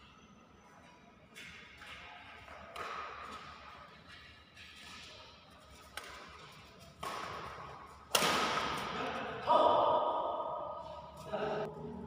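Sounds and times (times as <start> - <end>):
racket hitting shuttlecock: 1.4 - 11.3.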